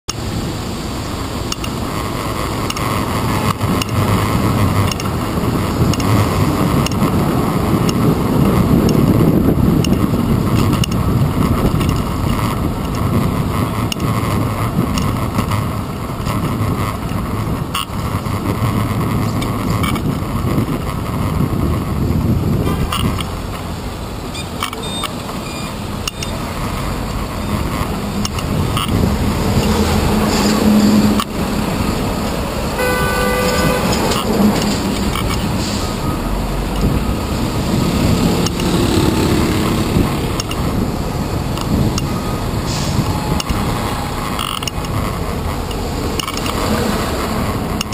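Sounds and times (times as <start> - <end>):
road rumble and wind: 0.0 - 47.9
truck low hum: 0.0 - 47.9
traffic passing close: 0.1 - 47.9.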